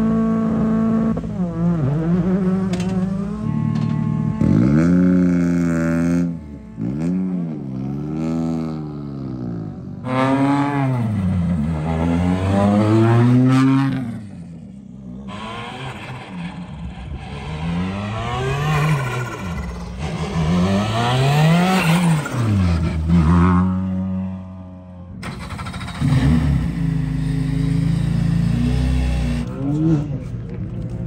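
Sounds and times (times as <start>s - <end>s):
rally car engines accelerating past: 0.0s - 31.0s.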